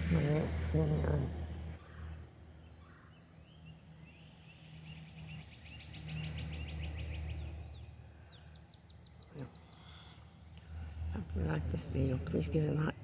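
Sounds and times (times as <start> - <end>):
songbird chirping: 0.0 - 13.0
steady low hum: 0.0 - 13.0.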